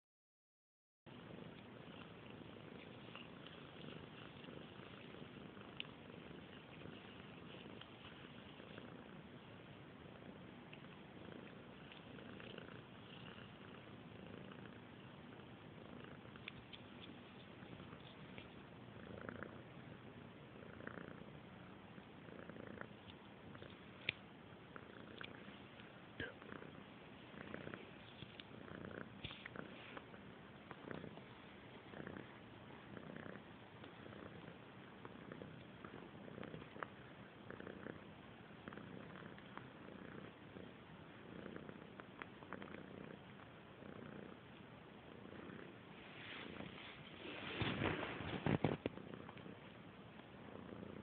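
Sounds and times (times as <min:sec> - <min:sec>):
cat purring: 0:01.1 - 0:51.0.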